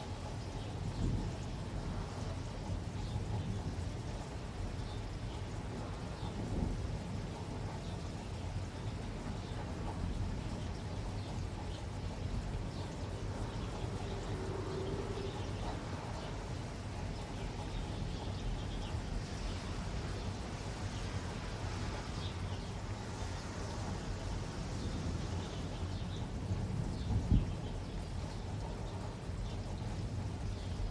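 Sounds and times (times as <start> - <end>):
steady rain hiss: 0.0 - 30.9.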